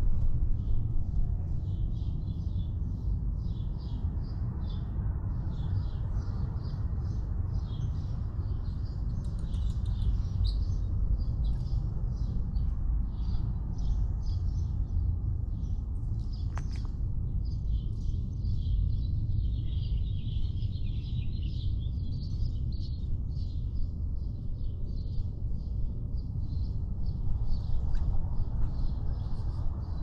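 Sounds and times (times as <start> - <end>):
low rumble of microphone noise: 0.0 - 30.0
small birds chirping: 0.6 - 30.0.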